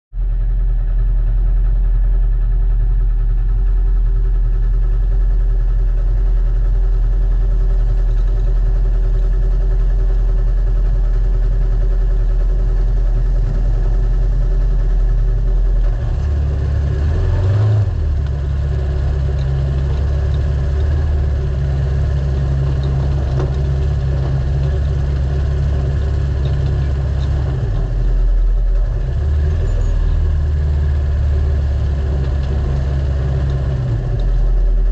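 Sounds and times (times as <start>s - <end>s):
engine running: 0.1s - 34.9s.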